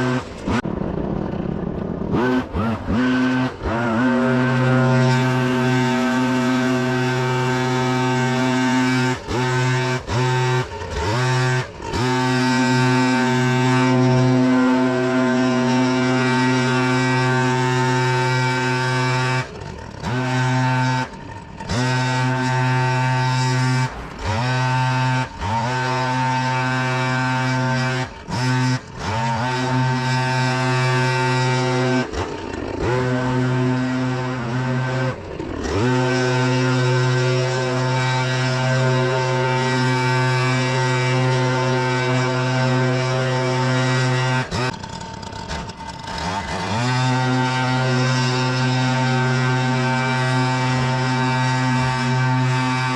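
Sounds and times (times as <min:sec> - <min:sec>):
leaf vacuum engine running: 0:00.0 - 0:52.9.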